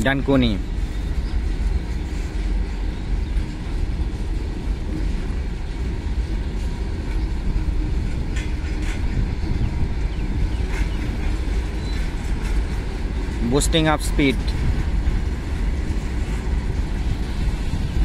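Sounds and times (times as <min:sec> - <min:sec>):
steel wheels rumbling on rails: 0:00.0 - 0:18.0.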